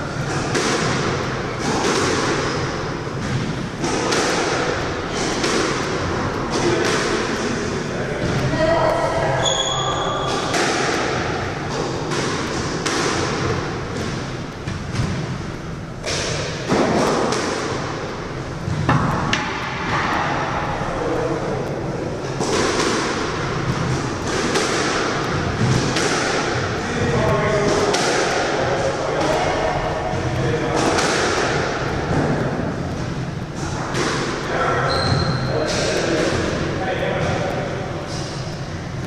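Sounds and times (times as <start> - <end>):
squash ball hits echoing: 0.0 - 39.0.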